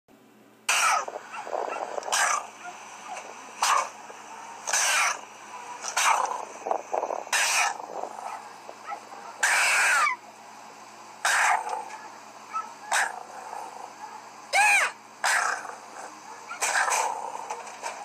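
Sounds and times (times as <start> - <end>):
fox barking: 0.7 - 10.2, 11.2 - 18.0.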